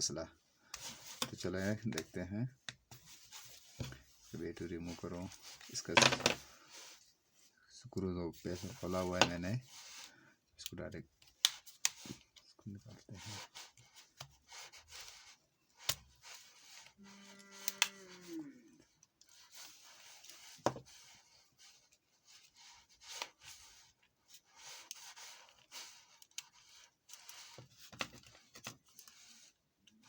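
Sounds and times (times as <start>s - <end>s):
plastic rubbing and scraping: 0.7s - 10.1s, 11.1s - 30.0s.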